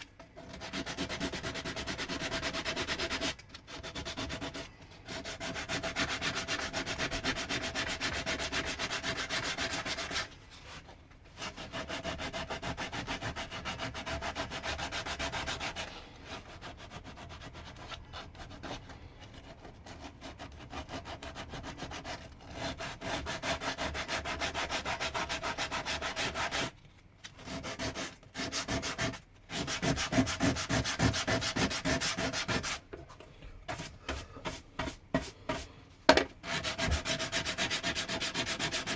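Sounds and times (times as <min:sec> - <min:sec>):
sandpaper sanding wood: 0:00.4 - 0:10.3, 0:11.4 - 0:26.7, 0:27.4 - 0:32.8, 0:36.4 - 0:38.9.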